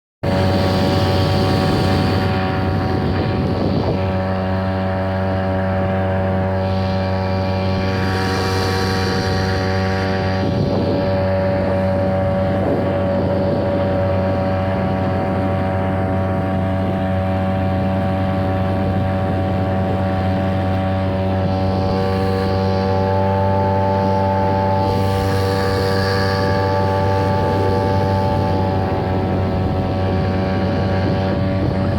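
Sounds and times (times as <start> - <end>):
small boat motor running: 0.2 - 31.9.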